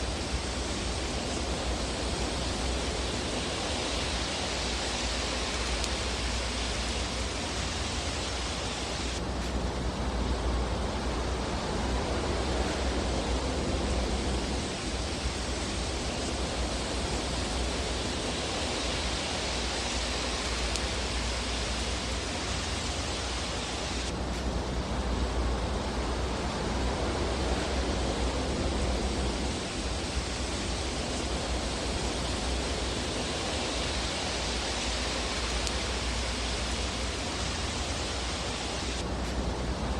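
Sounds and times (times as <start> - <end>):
fireplace fire hissing: 0.0 - 39.9.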